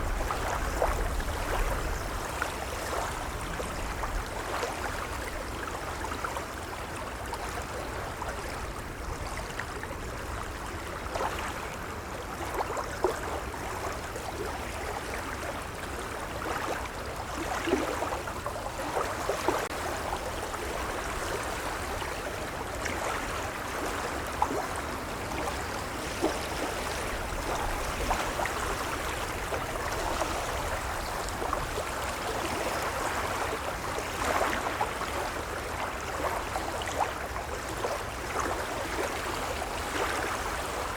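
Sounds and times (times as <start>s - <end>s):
gentle waves lapping: 0.0s - 40.9s
small water splashes: 0.0s - 40.9s.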